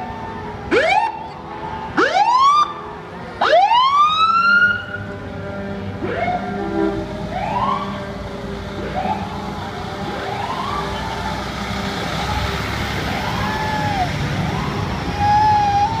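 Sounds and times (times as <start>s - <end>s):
emergency siren whooping: 0.0s - 2.8s, 3.4s - 5.0s, 6.0s - 8.2s, 8.8s - 16.0s.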